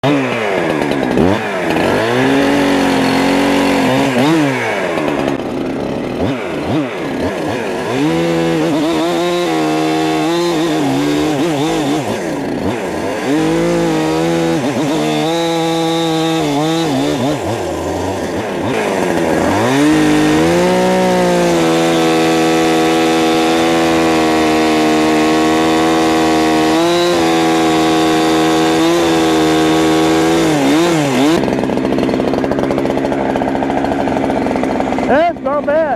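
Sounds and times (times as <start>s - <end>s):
chainsaw revving: 0.0s - 35.9s.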